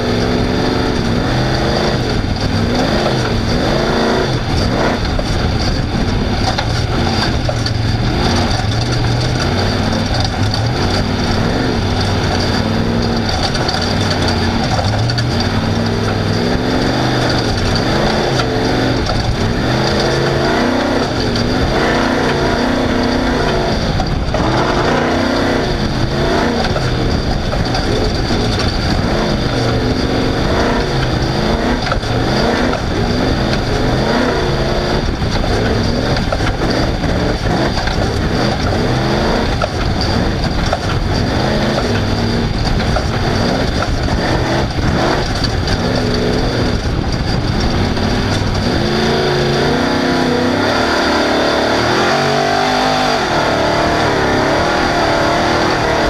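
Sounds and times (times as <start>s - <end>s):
race vehicle engine revving: 0.0s - 56.0s
rush of vehicle noise: 0.0s - 56.0s.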